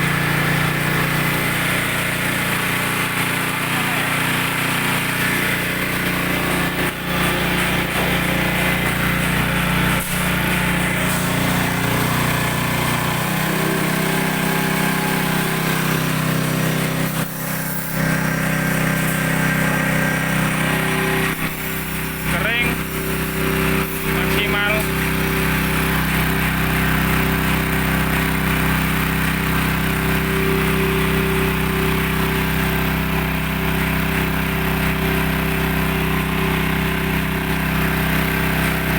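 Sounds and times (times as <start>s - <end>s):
press machine motor drone: 0.0s - 38.9s.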